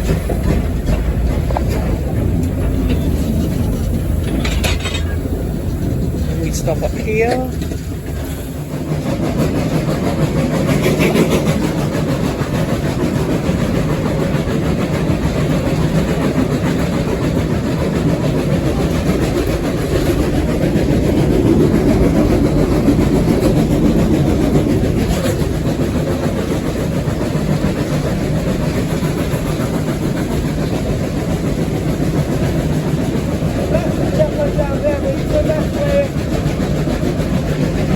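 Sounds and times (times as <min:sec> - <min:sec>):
steam locomotive rumble: 0:00.0 - 0:37.9.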